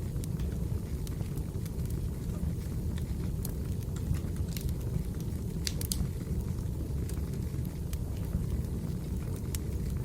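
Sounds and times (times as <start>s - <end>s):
fire flames rumbling: 0.0s - 10.0s
firewood crackling pops: 0.2s - 10.0s.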